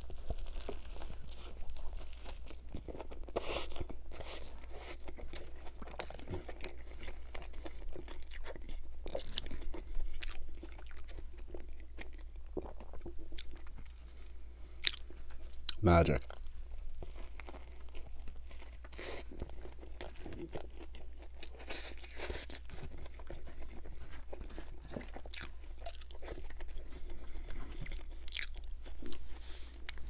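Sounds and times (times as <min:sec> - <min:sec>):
chewing with crunches: 0:00.0 - 0:30.0.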